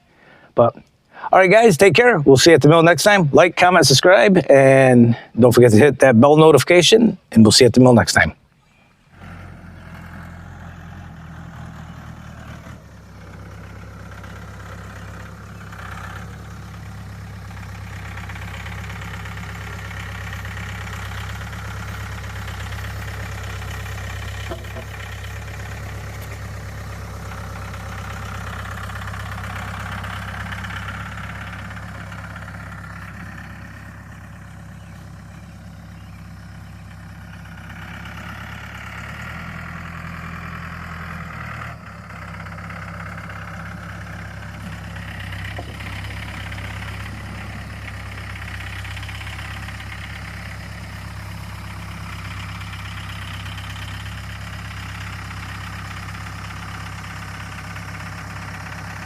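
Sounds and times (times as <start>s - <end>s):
engine idling: 0.0s - 7.0s, 8.6s - 59.0s.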